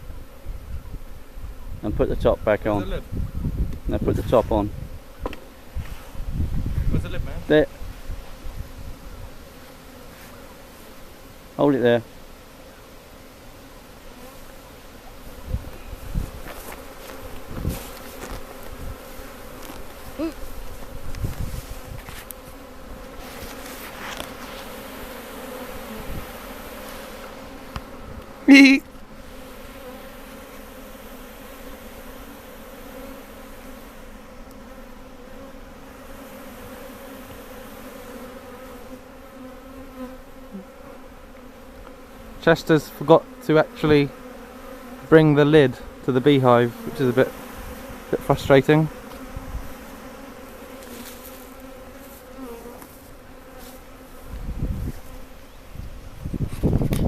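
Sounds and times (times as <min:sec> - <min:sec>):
honey bees buzzing: 0:00.0 - 0:57.0.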